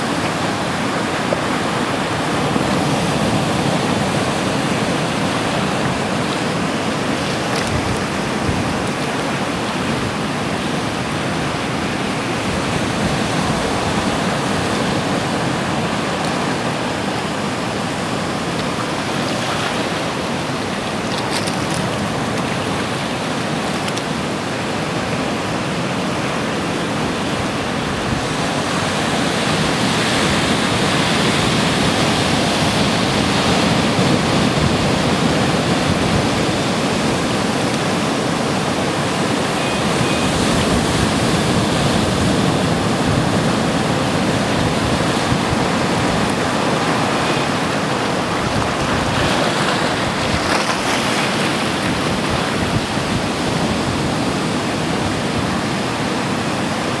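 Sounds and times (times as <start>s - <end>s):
ocean surf on rocky shore: 0.0s - 57.0s.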